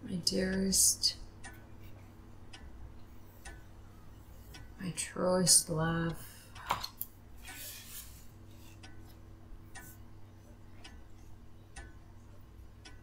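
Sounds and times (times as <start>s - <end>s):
clock ticking: 0.0s - 6.7s, 8.4s - 13.0s
low steady hum: 0.0s - 13.0s.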